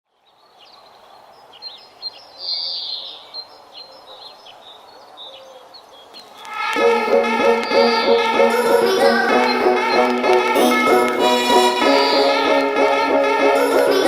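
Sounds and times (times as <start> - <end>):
birds chirping: 0.1 - 12.7.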